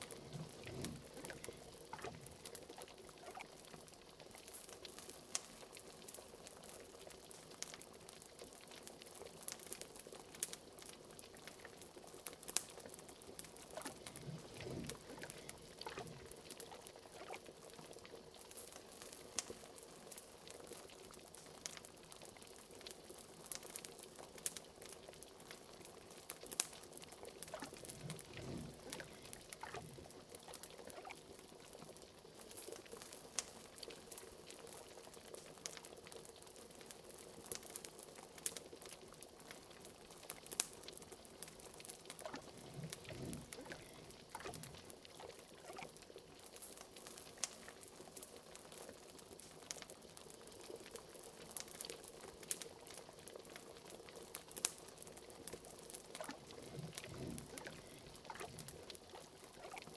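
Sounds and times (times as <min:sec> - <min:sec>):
liquid simmering and bubbling: 0:00.0 - 0:59.9.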